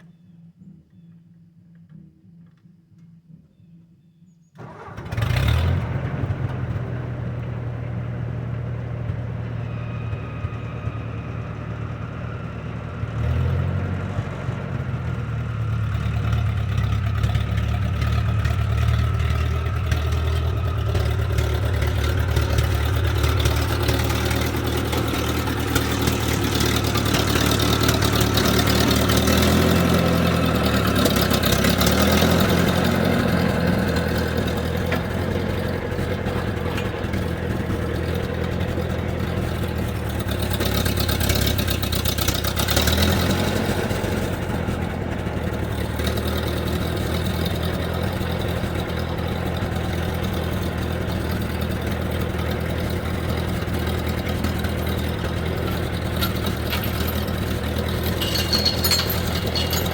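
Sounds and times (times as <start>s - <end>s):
vehicle engine starting and running: 4.6s - 59.9s.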